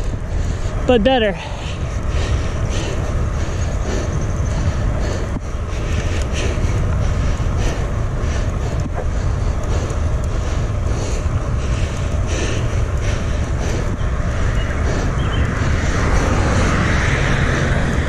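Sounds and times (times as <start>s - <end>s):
bicycle riding noise hiss: 0.0s - 18.0s
wind rumbling on microphone: 0.0s - 18.0s.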